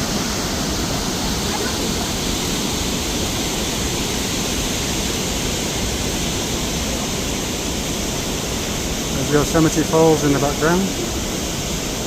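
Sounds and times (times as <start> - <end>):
white water rushing roar: 0.0 - 12.0.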